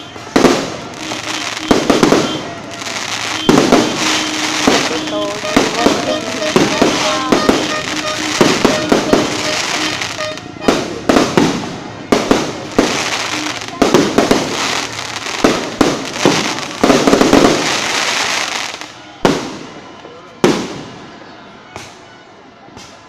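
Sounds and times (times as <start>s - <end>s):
firecrackers crackling: 0.0s - 22.0s
fireworks banging: 0.0s - 22.0s.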